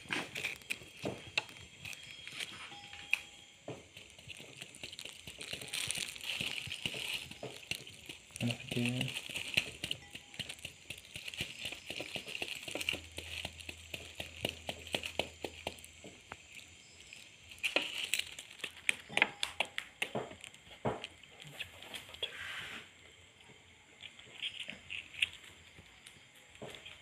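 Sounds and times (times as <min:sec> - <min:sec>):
papery comb crackling: 0:00.0 - 0:22.3.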